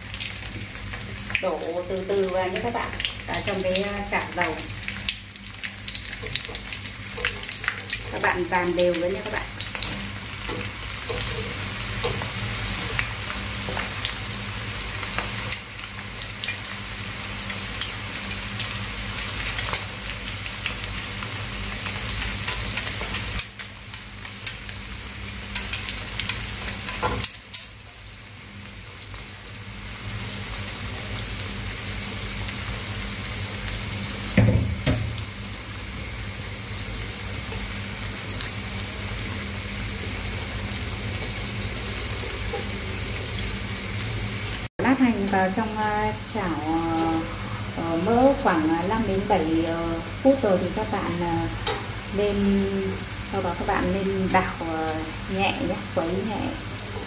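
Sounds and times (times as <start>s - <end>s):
shallots sizzling in hot oil: 0.0s - 57.0s.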